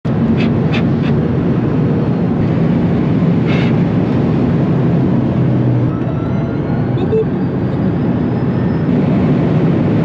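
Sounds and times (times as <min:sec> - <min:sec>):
moving vehicle drone: 0:00.0 - 0:10.0.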